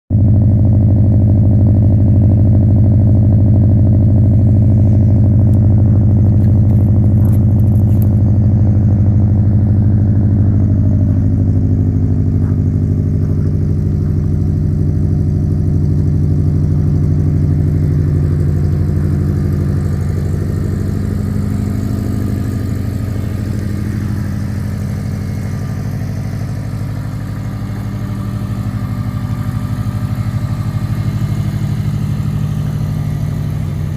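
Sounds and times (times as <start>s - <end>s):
engine idling: 0.1s - 33.9s.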